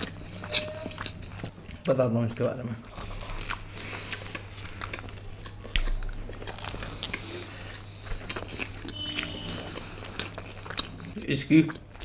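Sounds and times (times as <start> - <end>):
chewing and crunching bread: 0.0 - 12.0.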